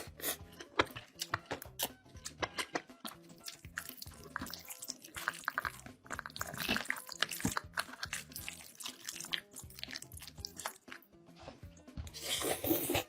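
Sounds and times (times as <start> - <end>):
faint background music: 0.0 - 13.0
wet chewing mouth noises: 0.1 - 11.0.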